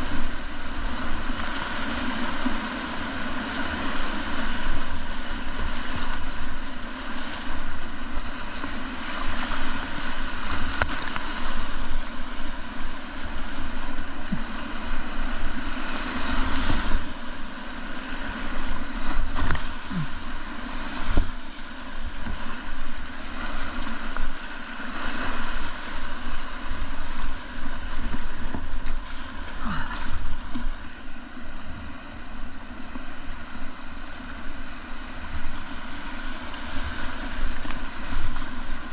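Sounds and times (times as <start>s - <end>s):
river whitewater rushing: 0.0s - 38.9s.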